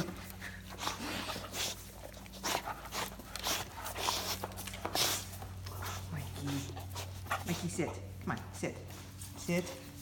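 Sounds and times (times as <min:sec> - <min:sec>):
puppy panting and snuffling: 0:00.0 - 0:10.0.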